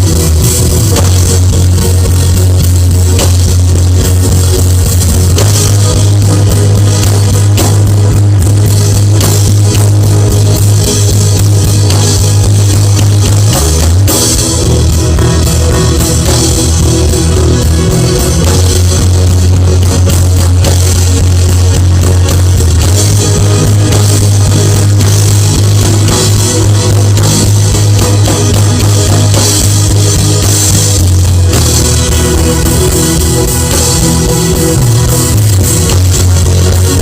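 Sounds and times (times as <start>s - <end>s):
drum kit: 0.0s - 37.0s
electric guitar: 0.0s - 37.0s
sustained bass line: 0.0s - 37.0s.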